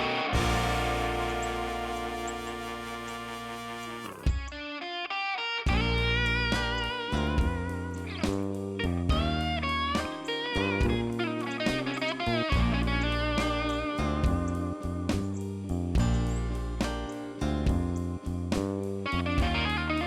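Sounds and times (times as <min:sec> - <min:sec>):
electric guitar music with beat: 0:00.0 - 0:20.0.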